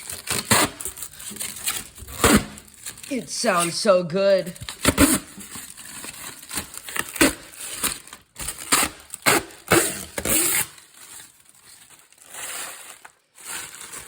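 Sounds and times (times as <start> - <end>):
plastic film crackling peeled: 0.0 - 3.6, 4.5 - 14.0.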